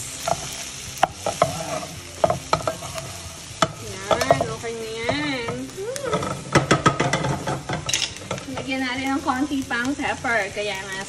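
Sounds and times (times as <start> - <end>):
food sizzling: 0.0 - 11.0
spatula scraping frying pan: 0.0 - 11.0.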